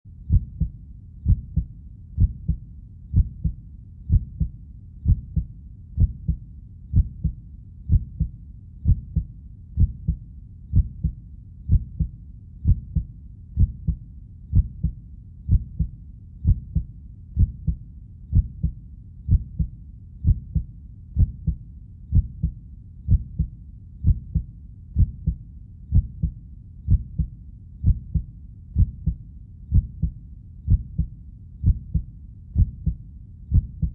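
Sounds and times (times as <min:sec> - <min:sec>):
heartbeat: 0:00.3 - 0:33.9.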